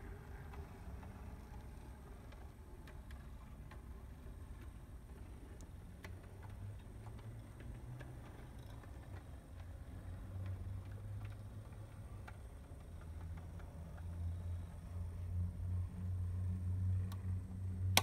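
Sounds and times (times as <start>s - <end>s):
model train motor humming: 0.0s - 18.0s
wheels clicking on rails: 0.0s - 18.0s.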